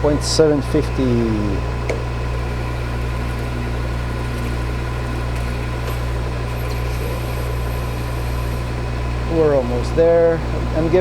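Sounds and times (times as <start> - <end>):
metal lathe cutting: 0.0 - 11.0.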